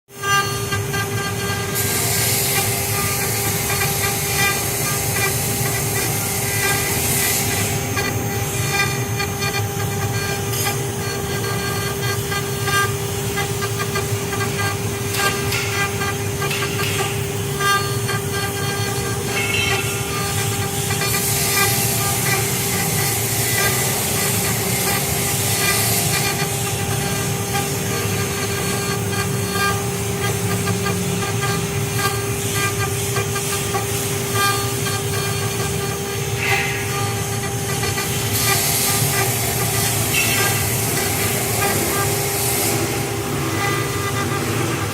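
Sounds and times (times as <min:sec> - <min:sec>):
high spindle whine: 0:00.1 - 0:44.9
machining noise: 0:00.1 - 0:44.9.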